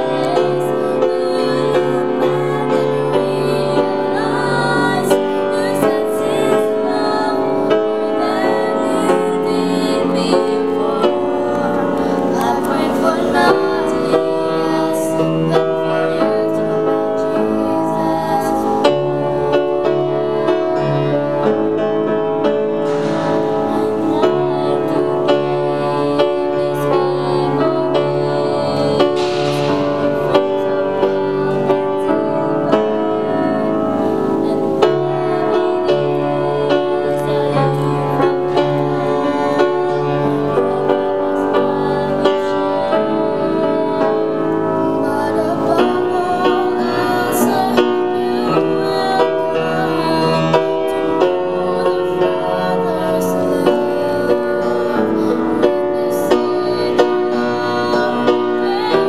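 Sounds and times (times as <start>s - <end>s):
slow instrumental music: 0.0s - 59.0s.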